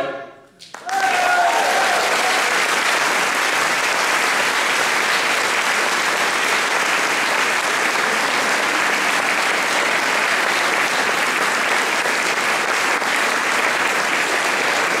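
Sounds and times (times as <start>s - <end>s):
large audience applauding: 0.6s - 15.0s.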